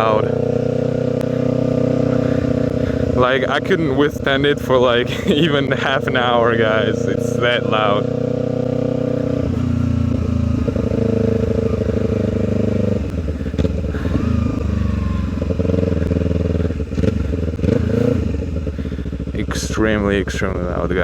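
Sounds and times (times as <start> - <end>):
loud motorcycle engine: 0.0 - 21.0.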